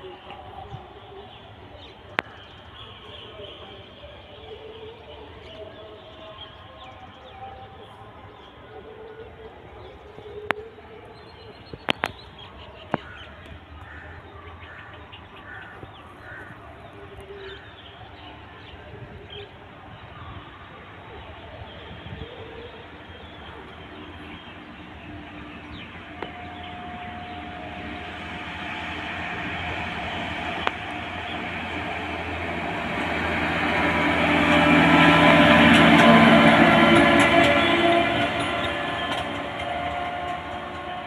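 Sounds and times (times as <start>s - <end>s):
rail machine engine hum: 0.0s - 41.0s.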